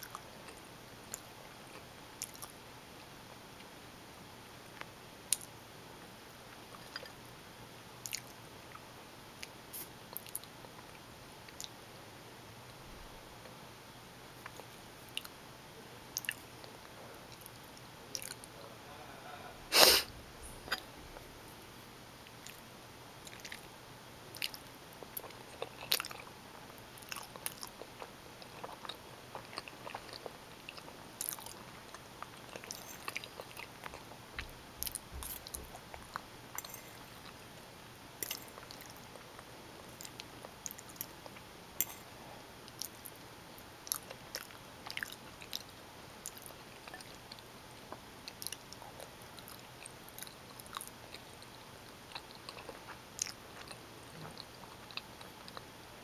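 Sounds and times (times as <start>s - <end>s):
mouth chewing pasta: 0.0s - 2.6s, 6.4s - 7.3s, 8.0s - 11.8s, 14.3s - 15.4s, 16.1s - 21.4s, 22.2s - 56.0s.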